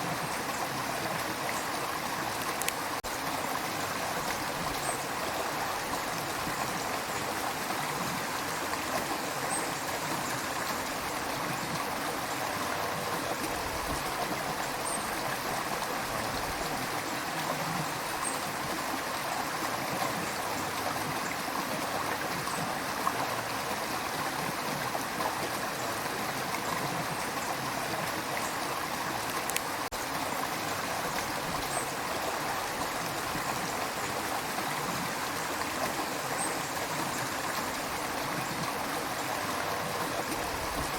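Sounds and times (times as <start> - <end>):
river water rushing and gurgling: 0.0 - 40.9.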